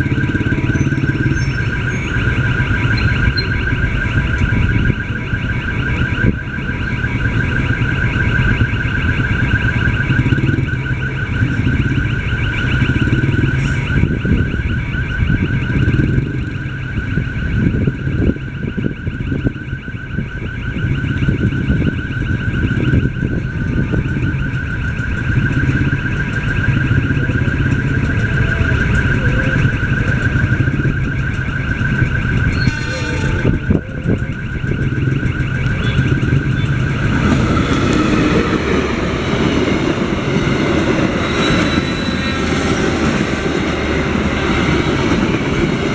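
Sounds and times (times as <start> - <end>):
warbling crossing siren: 0.0 - 45.9.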